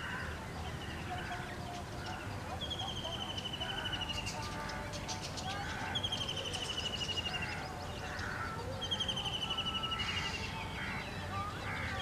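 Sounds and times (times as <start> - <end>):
bird trilling: 0.0 - 12.0
birds calling and cawing: 0.0 - 12.0.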